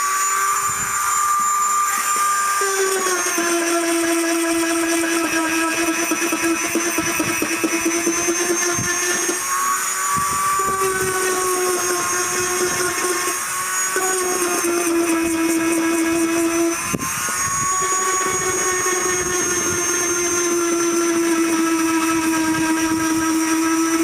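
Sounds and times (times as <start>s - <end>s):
rotary tool sanding whine: 0.0s - 24.0s.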